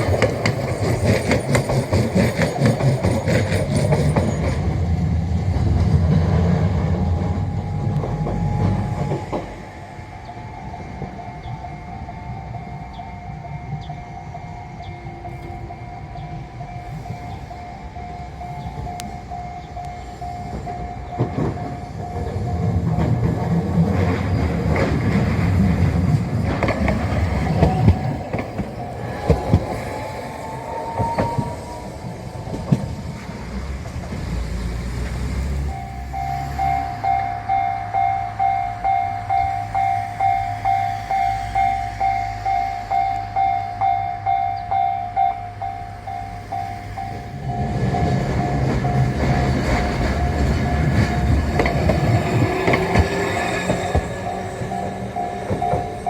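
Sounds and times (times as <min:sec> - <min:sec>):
level-crossing alarm ringing: 0:00.0 - 0:33.9, 0:35.4 - 0:56.0
train rumble: 0:00.0 - 0:56.0
wheels clicking over rail joints: 0:00.0 - 0:56.0.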